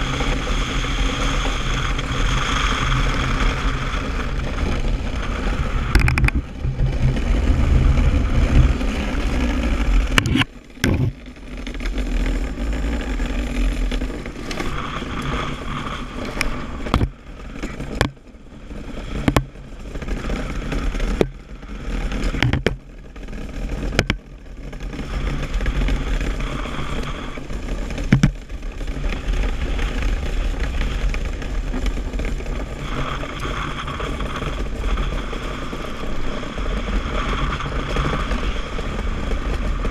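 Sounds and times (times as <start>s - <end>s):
wind on microphone: 0.0s - 22.8s, 24.8s - 39.9s
steel runners on ice: 0.0s - 39.9s.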